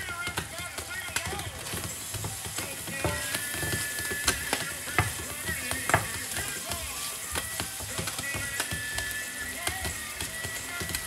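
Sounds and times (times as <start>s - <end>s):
background music: 0.0s - 11.0s
food sizzling in a pan: 0.0s - 11.0s
utensil stirring and scraping: 0.0s - 11.0s.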